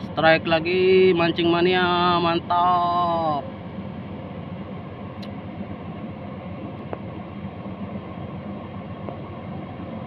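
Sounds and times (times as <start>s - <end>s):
faint hum: 0.0s - 10.0s
low rumbling background noise: 0.0s - 10.0s.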